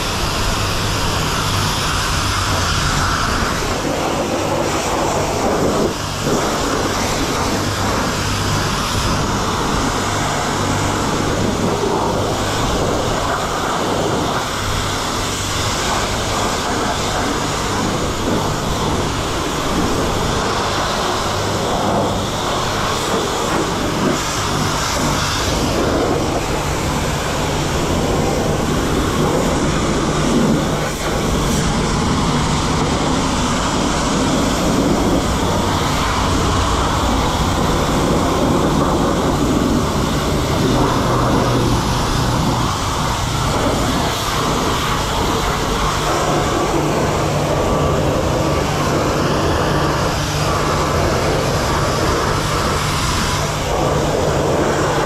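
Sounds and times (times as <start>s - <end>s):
low hum: 0.0s - 55.0s
pressure wand spraying water: 0.0s - 55.0s.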